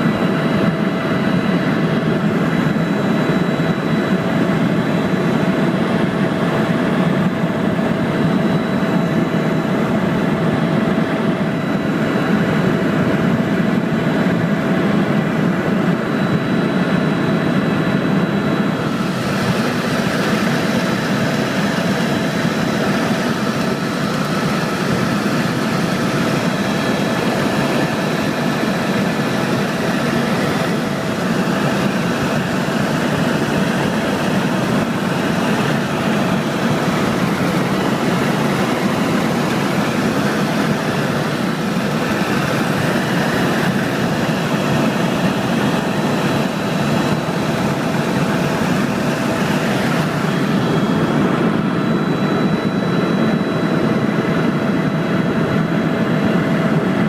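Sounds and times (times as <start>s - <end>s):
faint high whine: 0.0s - 56.8s
helicopter engine and rotors droning: 0.0s - 57.0s.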